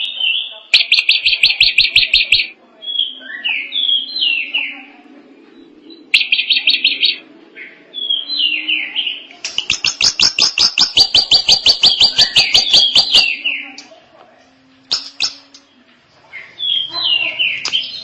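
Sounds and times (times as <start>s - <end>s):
bird singing and chattering: 0.0s - 13.9s, 14.9s - 18.0s.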